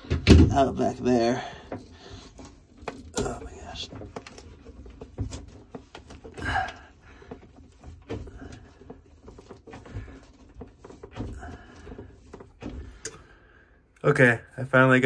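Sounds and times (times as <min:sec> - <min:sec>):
hands handling hoses and fittings: 0:00.0 - 0:13.4.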